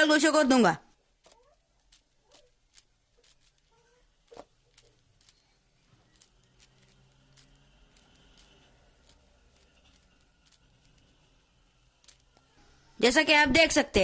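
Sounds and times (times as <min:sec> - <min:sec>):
puzzle cube layers clicking: 0:01.2 - 0:12.6.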